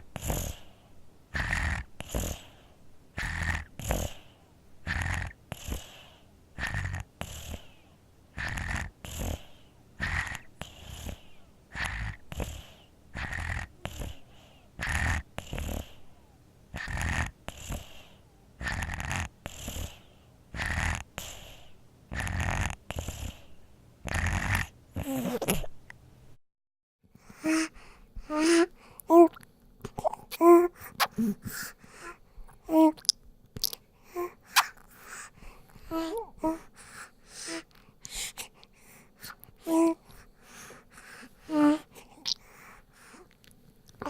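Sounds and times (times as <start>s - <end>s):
infant snoring: 0.1s - 2.6s, 3.2s - 25.7s, 27.3s - 29.4s, 34.1s - 43.3s.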